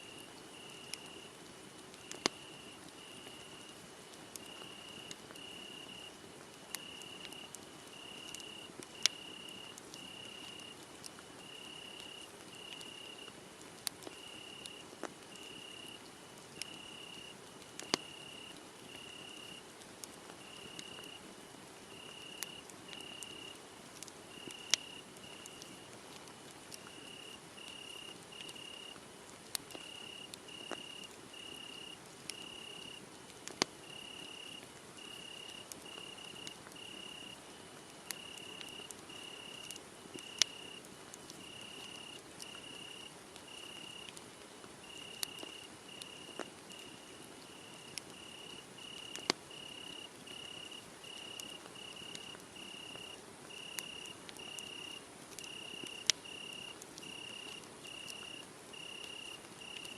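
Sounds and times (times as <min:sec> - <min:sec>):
crickets chirping: 0:00.0 - 0:01.2, 0:02.1 - 0:03.7, 0:04.4 - 0:06.1, 0:06.7 - 0:10.8, 0:11.4 - 0:13.3, 0:14.1 - 0:16.0, 0:16.6 - 0:17.3, 0:17.9 - 0:19.6, 0:20.4 - 0:21.2, 0:21.9 - 0:23.5, 0:24.3 - 0:25.9, 0:26.9 - 0:28.9, 0:29.7 - 0:33.0, 0:33.8 - 0:37.4, 0:38.1 - 0:40.8, 0:41.4 - 0:44.1, 0:44.8 - 0:59.9
wood fire crackling: 0:00.2 - 0:59.9.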